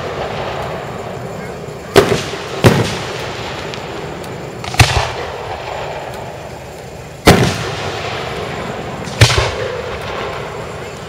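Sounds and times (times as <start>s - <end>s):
fireworks booming: 0.0s - 11.0s
steady background hiss: 0.0s - 11.0s.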